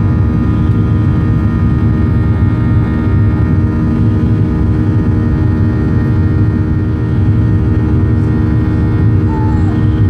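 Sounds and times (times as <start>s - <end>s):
jet engine rumbling drone: 0.0s - 10.0s
steady high engine tones: 0.0s - 10.0s.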